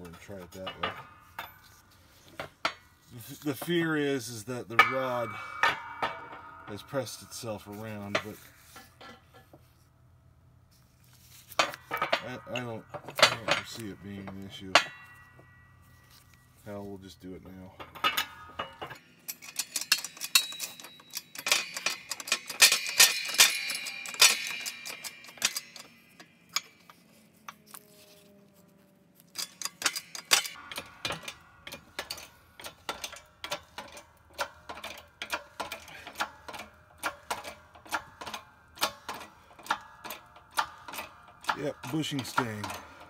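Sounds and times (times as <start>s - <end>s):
metal clinks and clatter: 0.0s - 9.8s, 11.0s - 28.2s, 29.2s - 43.0s.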